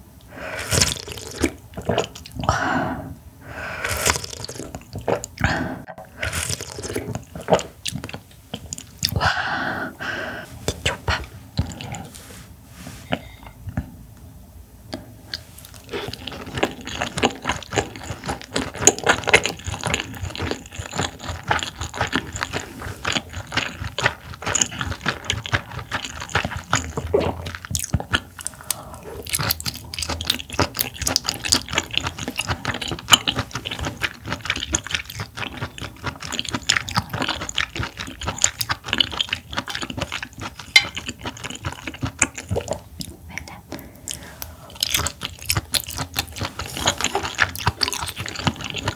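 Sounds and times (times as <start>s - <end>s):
wet chewing mouth sounds: 0.5s - 2.6s, 3.7s - 12.4s, 14.9s - 48.9s.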